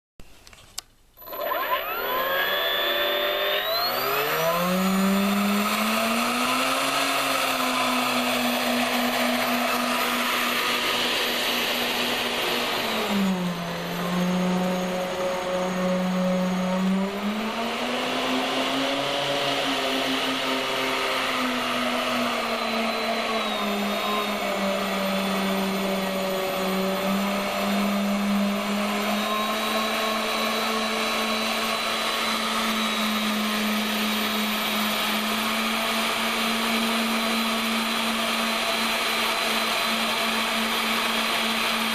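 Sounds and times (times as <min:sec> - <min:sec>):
electric ducted fans whining: 0:00.8 - 0:41.9.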